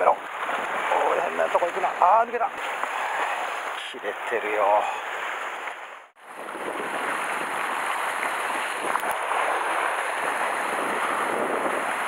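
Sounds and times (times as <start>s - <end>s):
waves breaking on rocks: 0.0s - 12.0s.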